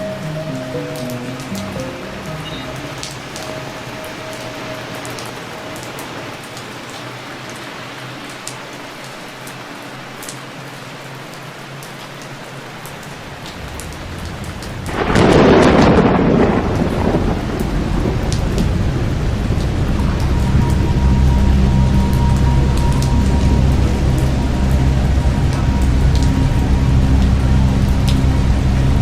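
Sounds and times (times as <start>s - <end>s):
thunder rumbling: 0.0s - 7.8s, 13.2s - 29.0s
raindrop ticks: 0.0s - 10.5s, 11.3s - 29.0s
heavy rain: 0.0s - 29.0s.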